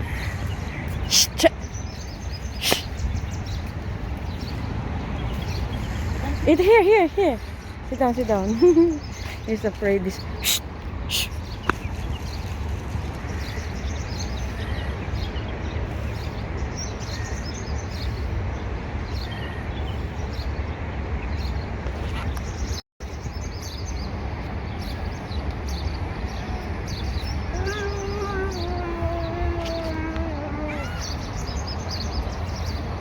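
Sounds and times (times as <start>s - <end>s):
small birds chirping: 0.0s - 18.4s, 19.1s - 33.0s.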